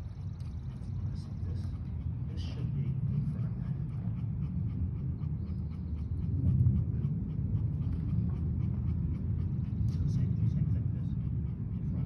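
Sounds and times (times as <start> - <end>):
dog panting: 0.0 - 12.0
steady low rumble: 0.0 - 12.0.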